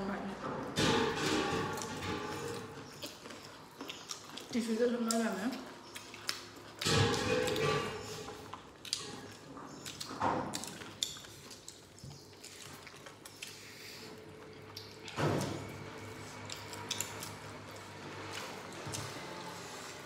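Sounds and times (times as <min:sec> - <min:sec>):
wet chewing and lip smacks: 0:01.7 - 0:20.0
fingers squishing food: 0:02.1 - 0:19.6.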